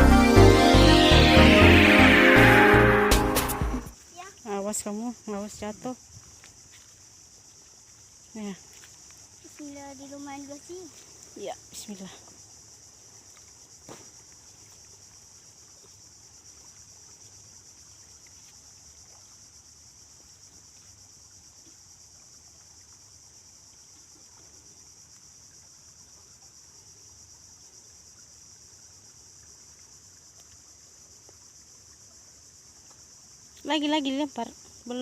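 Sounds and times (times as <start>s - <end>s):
faint insects chirring: 3.9s - 35.0s.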